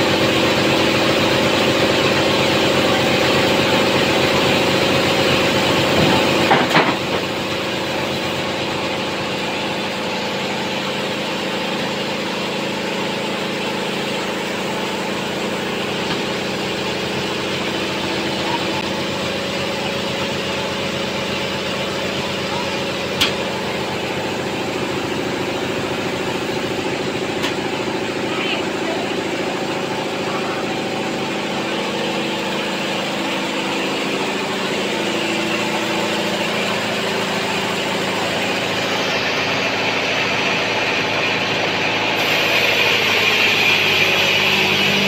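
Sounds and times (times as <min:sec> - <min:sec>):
bandsaw engine running: 0:00.0 - 0:45.0.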